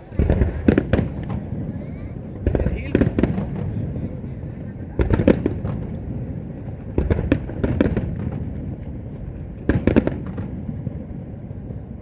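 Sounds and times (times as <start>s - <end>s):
fireworks bangs: 0.0s - 12.0s
low rumble of fireworks display: 0.0s - 12.0s.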